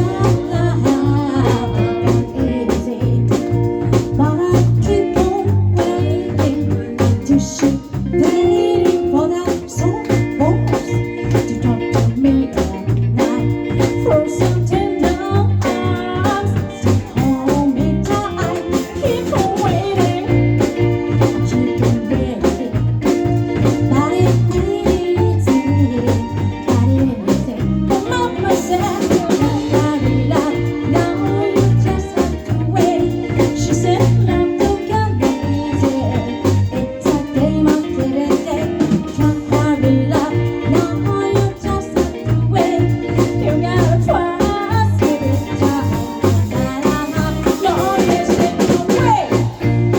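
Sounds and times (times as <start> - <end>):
electric guitar: 0.0 - 49.9
live band playing blues: 0.0 - 49.9
steady drum kit beat: 0.0 - 49.9.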